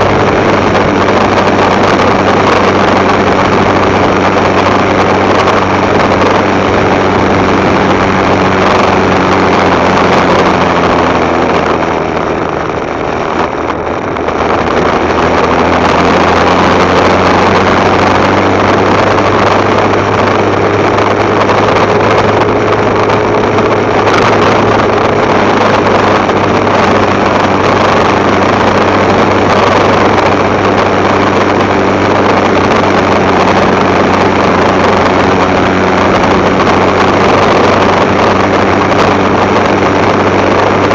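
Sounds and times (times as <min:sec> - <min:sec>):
motorcycle engine running: 0:00.0 - 0:40.9
road noise: 0:00.0 - 0:40.9
wind noise: 0:00.0 - 0:40.9.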